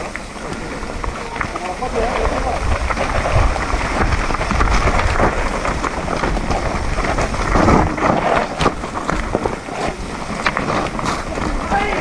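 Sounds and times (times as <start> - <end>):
tyres on loose dirt and stones: 0.0 - 12.0
wind buffeting microphone: 0.0 - 12.0.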